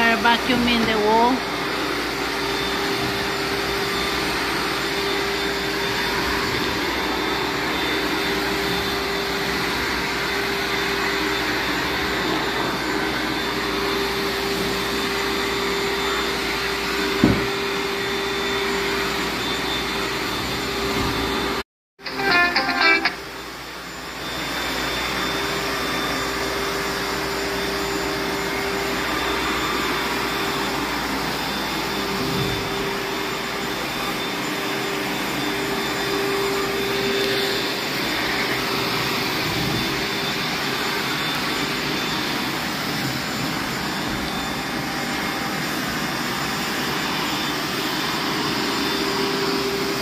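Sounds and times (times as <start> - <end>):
vacuum cleaner running: 0.0 - 50.0.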